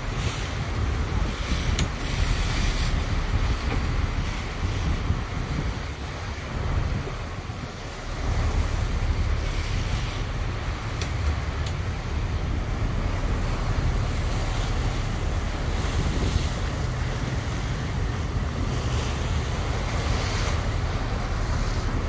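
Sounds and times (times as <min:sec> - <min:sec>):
steady low rumble: 0:00.0 - 0:22.0
water rushing and splashing: 0:00.0 - 0:22.0
wind buffeting microphone: 0:00.0 - 0:22.0.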